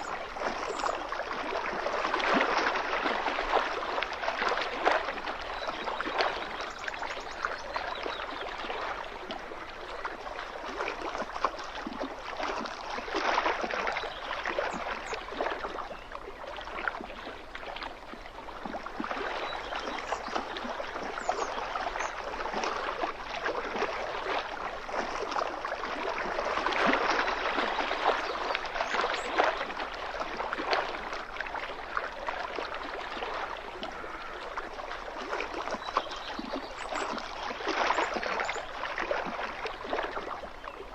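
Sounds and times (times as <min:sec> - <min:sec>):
small waves lapping on shore: 0:00.0 - 0:40.9.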